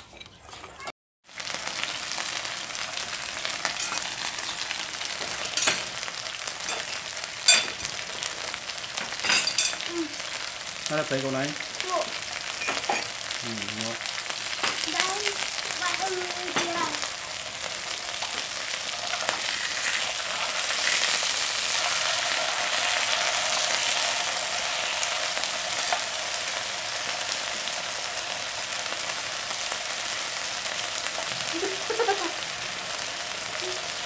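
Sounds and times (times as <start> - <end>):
food sizzling on grill pan: 1.3 - 34.0.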